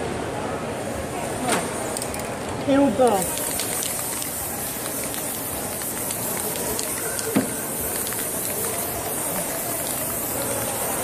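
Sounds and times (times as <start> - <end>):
spray paint can hissing: 1.6 - 11.0.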